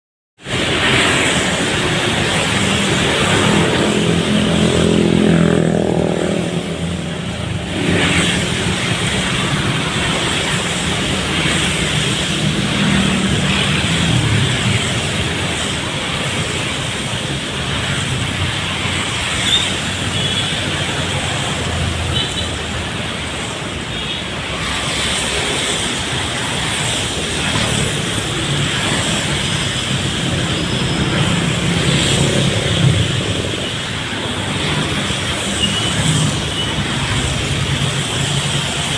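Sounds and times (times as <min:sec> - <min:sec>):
rain and wet tyres hissing: 0:00.4 - 0:05.2, 0:06.2 - 0:38.9.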